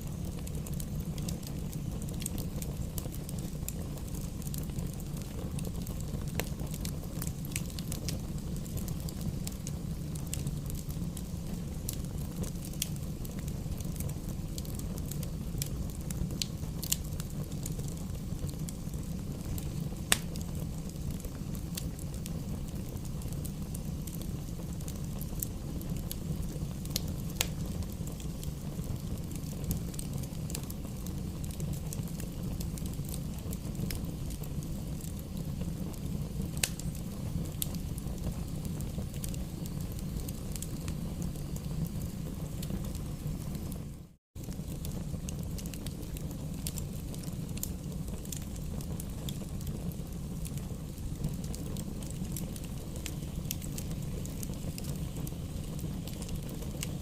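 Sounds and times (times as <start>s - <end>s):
logs crackling and popping: 0.0s - 43.8s, 44.4s - 57.0s
wood fire rumbling: 0.0s - 57.0s.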